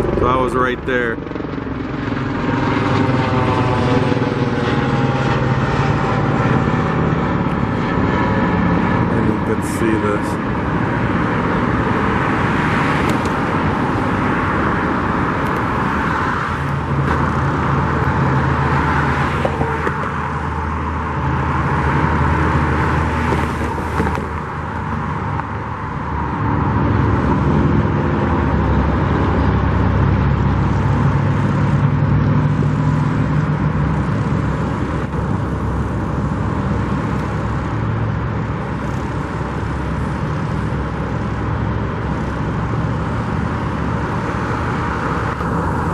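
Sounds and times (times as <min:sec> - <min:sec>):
cars passing on a road: 0:00.0 - 0:45.9.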